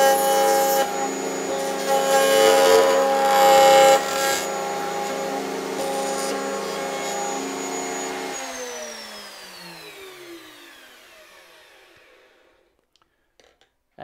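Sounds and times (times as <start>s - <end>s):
router whining and spinning down: 0.0s - 12.8s.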